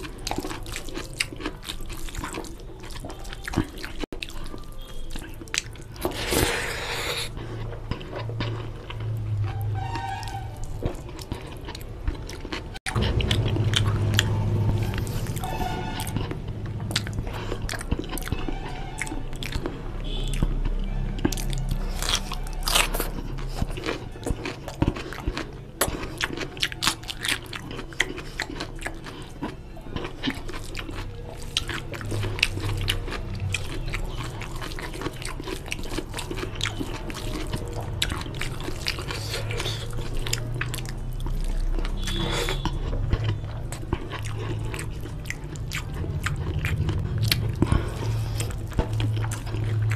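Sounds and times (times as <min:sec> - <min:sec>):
person chewing and lip smacking: 0:00.0 - 0:49.9.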